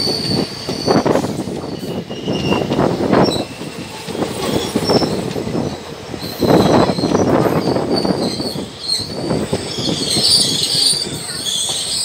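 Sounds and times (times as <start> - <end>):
brakes squealing on wheels: 0.0 - 3.6, 4.4 - 12.0
train wheels clattering on rails: 0.0 - 12.0.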